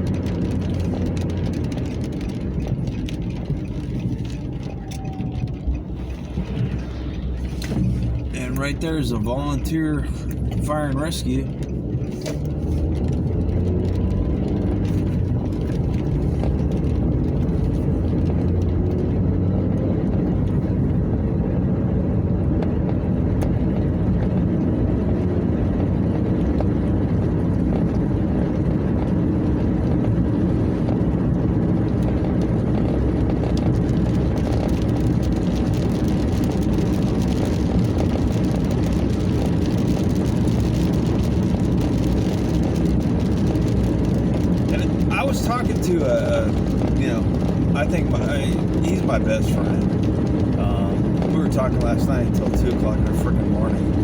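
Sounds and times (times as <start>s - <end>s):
car engine rumble: 0.0s - 54.0s
road noise inside car: 0.0s - 54.0s.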